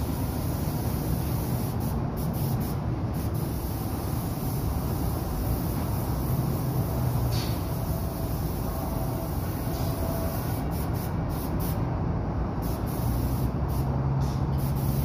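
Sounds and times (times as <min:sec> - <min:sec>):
spray gun hissing: 0:00.0 - 0:11.8, 0:12.6 - 0:15.0.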